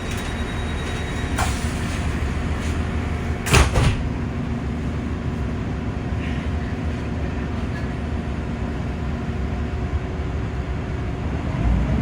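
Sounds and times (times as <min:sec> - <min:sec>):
train clunks and knocks: 0:00.0 - 0:10.3
train diesel engine running: 0:00.0 - 0:12.0.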